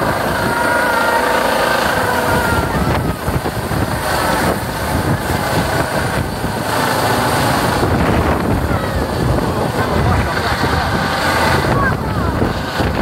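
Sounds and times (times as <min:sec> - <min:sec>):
helicopter rotor noise: 0:00.0 - 0:13.0
helicopter turbine whine: 0:00.0 - 0:13.0
wind buffeting microphone: 0:00.0 - 0:13.0.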